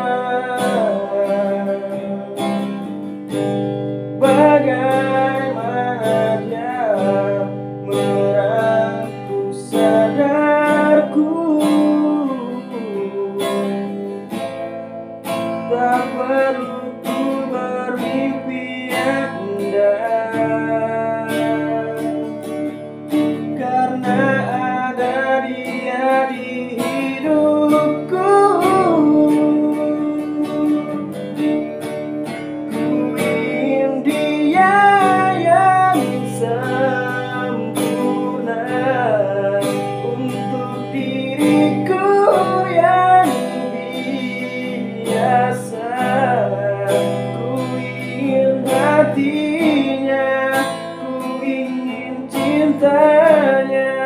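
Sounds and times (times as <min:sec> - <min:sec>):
man singing pop ballad: 0:00.0 - 0:03.6, 0:04.2 - 0:54.0
strummed acoustic guitar: 0:00.0 - 0:54.0.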